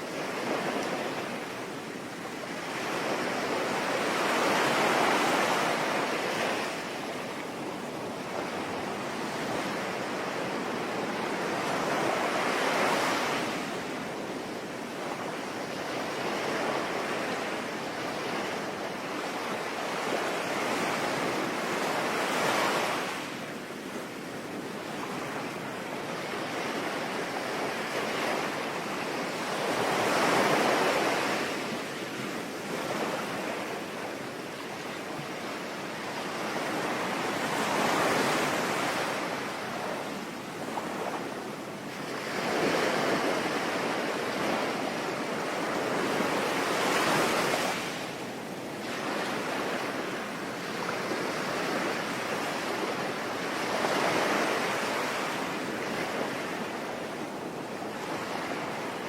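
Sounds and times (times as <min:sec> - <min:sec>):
sea waves washing ashore: 0:00.0 - 0:59.0.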